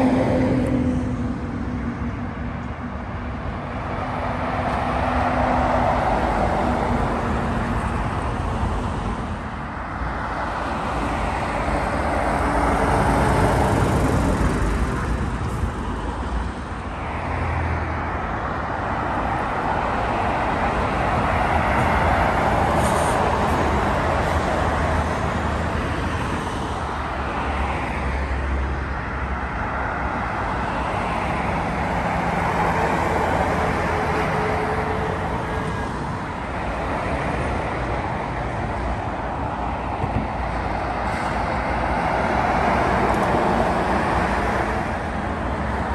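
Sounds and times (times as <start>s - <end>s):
traffic passing at speed: 0.0s - 45.9s.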